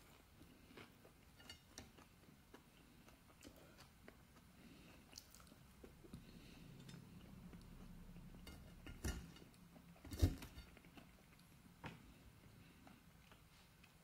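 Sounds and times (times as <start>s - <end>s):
faint chewing of chips: 0.0s - 14.0s.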